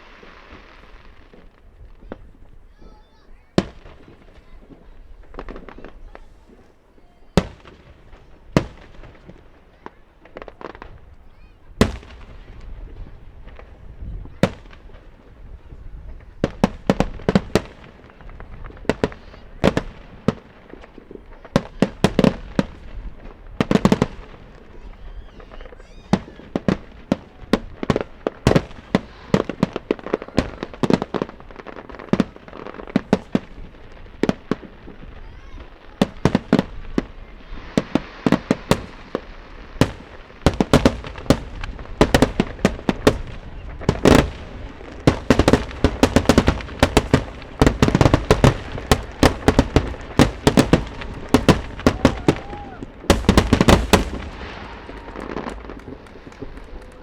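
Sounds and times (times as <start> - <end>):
fireworks bangs echoing: 0.0 - 57.0.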